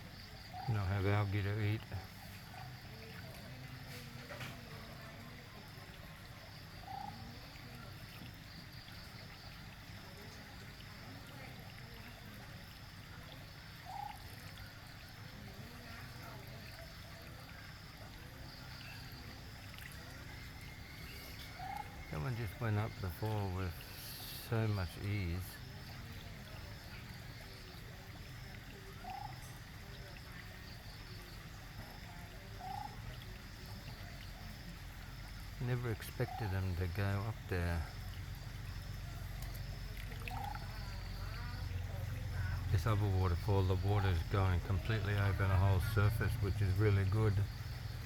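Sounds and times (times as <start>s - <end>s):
frog calling: 0.0s - 48.0s
waterfall trickling over rocks: 0.0s - 48.0s.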